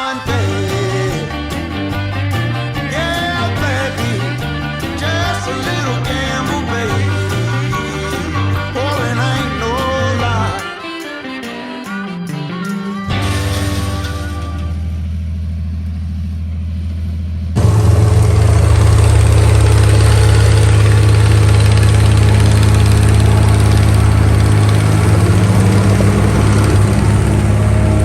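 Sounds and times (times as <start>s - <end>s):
combine engine hum: 0.5s - 10.6s, 13.1s - 28.0s.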